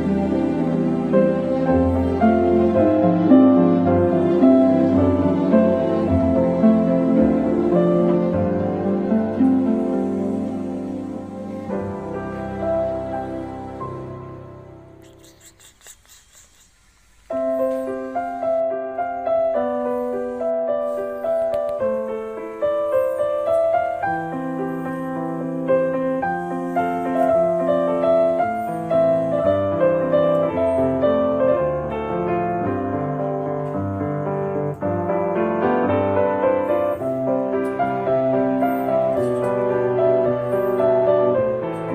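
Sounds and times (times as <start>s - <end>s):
background piano music: 0.0s - 15.4s, 17.3s - 41.9s.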